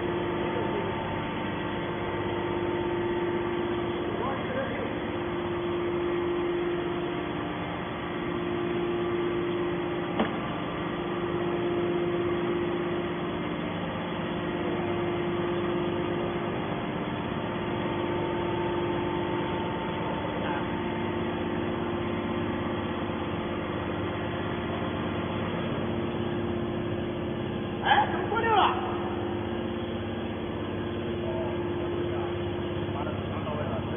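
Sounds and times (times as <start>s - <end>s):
baler machine hum: 0.0s - 33.9s.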